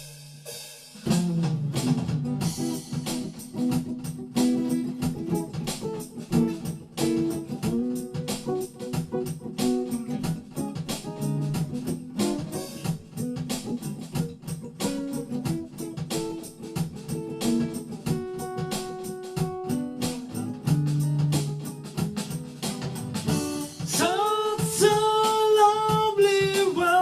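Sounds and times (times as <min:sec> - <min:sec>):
soul band playing: 0:01.0 - 0:27.0.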